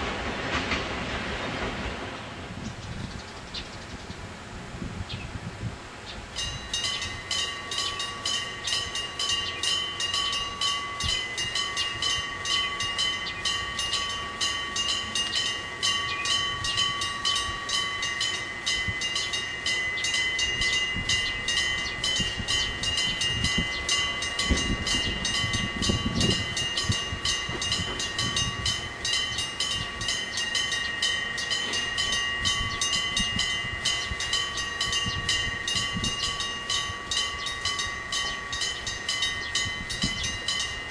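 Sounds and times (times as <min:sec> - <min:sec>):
level crossing bell ringing: 0:06.4 - 0:40.9.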